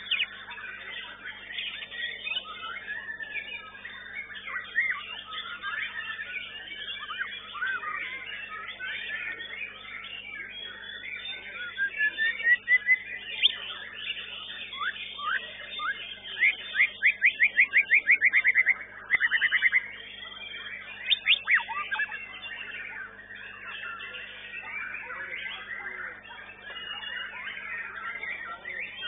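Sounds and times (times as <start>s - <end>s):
chattering chorus of songbirds: 0.0s - 29.0s
songbird whistling song: 0.0s - 29.0s.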